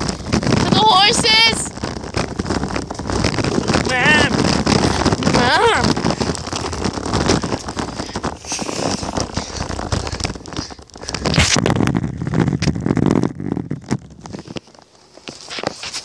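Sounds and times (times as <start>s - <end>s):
footsteps on asphalt: 0.0s - 12.8s, 13.7s - 16.0s.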